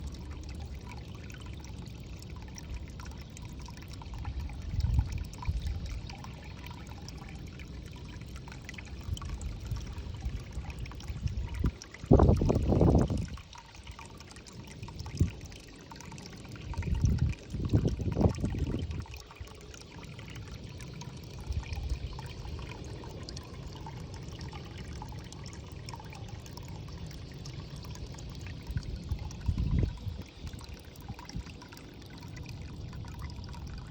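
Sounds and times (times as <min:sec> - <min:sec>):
water trickling into pond: 0:00.0 - 0:33.9.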